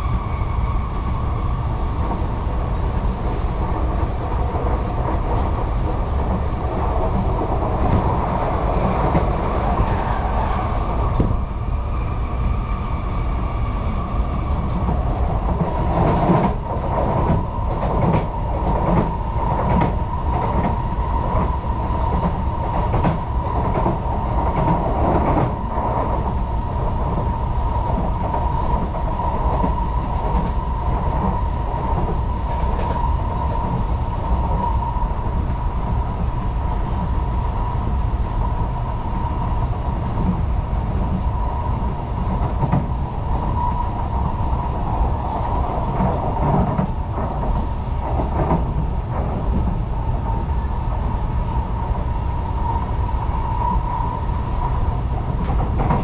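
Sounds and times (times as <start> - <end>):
steady train whine: 0.0 - 56.0
train wheels rumbling on track: 0.0 - 56.0.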